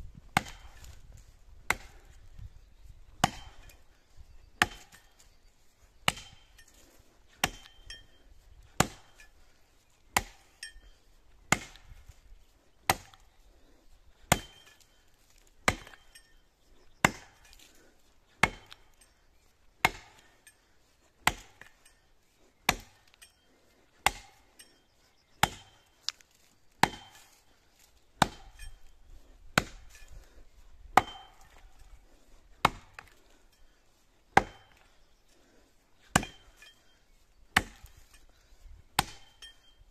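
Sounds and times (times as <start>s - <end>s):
axe chopping tree: 0.2s - 2.4s, 3.1s - 12.2s, 12.8s - 19.0s, 19.7s - 21.9s, 22.6s - 39.7s.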